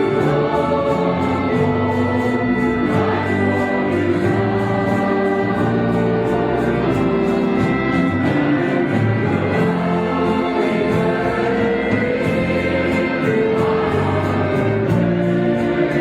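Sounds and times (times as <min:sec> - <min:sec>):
choir singing long notes: 0:00.0 - 0:16.0
instrumental accompaniment: 0:00.0 - 0:16.0.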